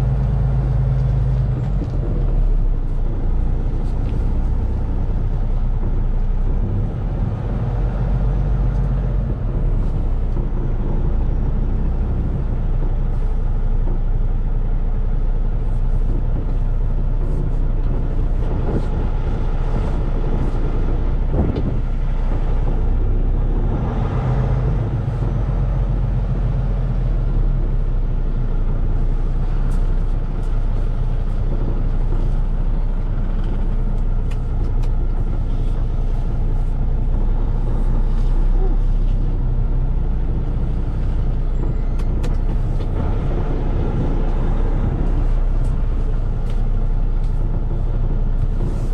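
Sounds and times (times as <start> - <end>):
road and tyre noise: 0.0 - 48.9
truck engine drone: 0.0 - 48.9.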